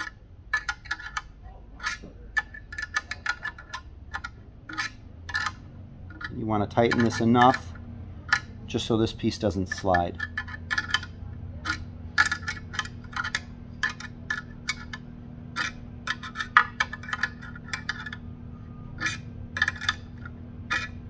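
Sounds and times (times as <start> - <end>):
wrench clinking on metal: 0.0 - 18.3, 19.0 - 21.0.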